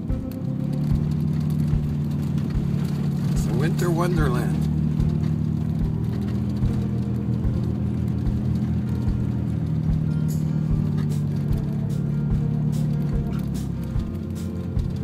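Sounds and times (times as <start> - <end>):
vehicle bumping over ruts: 0.0 - 15.0
vehicle engine drone: 0.0 - 15.0.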